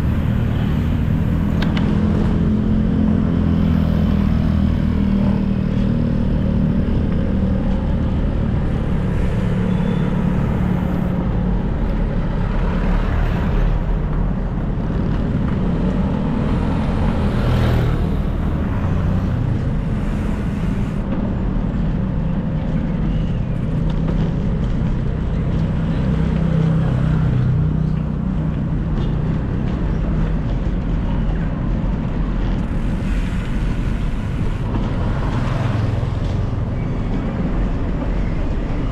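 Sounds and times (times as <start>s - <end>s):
road traffic rumble: 0.0s - 38.9s.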